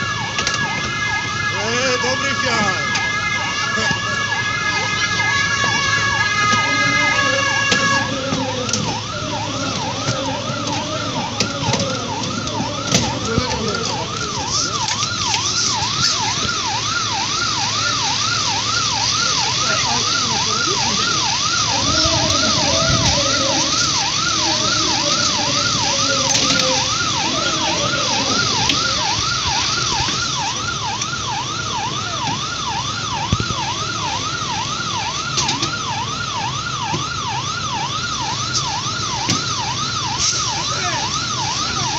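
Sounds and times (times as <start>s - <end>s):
noisy background: 0.0s - 41.9s
siren yelping: 0.0s - 41.9s.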